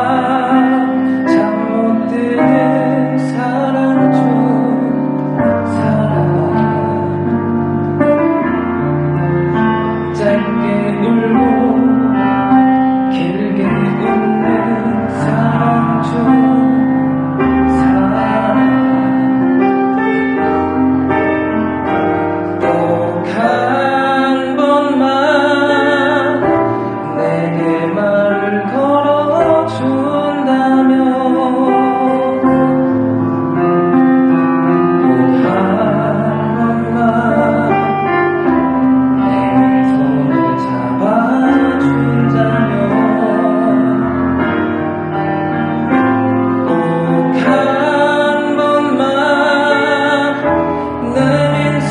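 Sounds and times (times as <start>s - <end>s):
person singing with vibrato: 0.0s - 51.9s
piano accompaniment: 0.0s - 51.9s.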